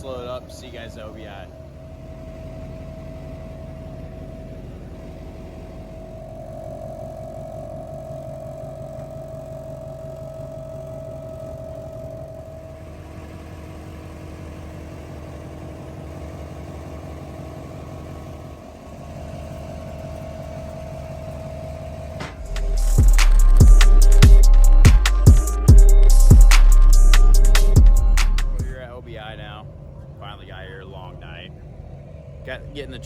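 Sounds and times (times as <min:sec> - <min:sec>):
steady hum: 0:00.0 - 0:33.0
vehicle engine running: 0:00.0 - 0:33.0.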